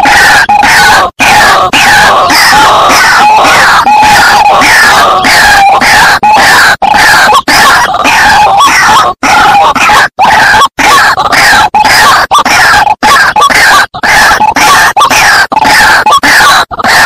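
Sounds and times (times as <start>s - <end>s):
waterhen harsh calls: 0.0s - 17.0s.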